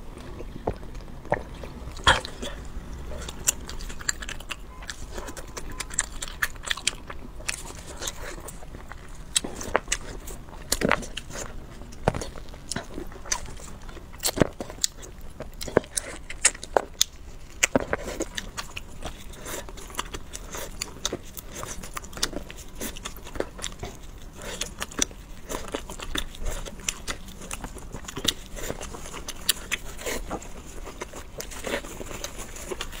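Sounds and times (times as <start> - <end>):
chewing: 0.0 - 33.0.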